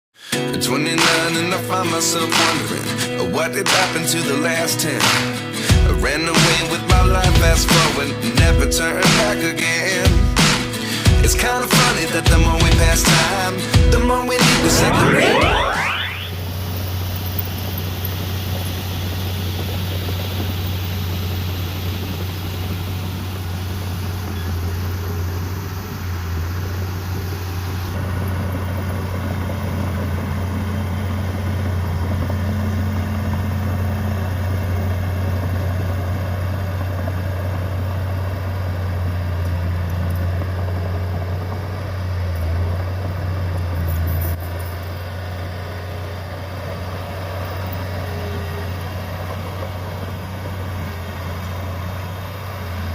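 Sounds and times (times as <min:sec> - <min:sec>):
heavy diesel engine droning: 0:00.2 - 0:52.9.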